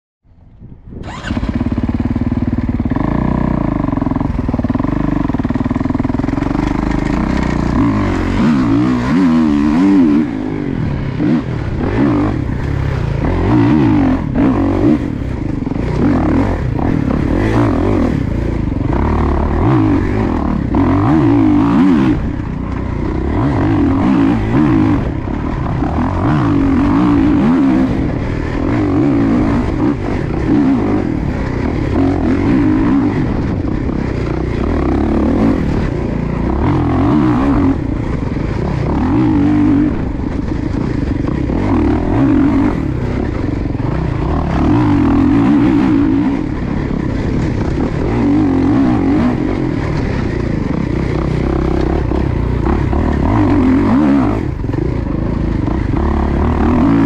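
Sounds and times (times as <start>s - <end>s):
dirt bike engine revving: 1.0s - 57.0s.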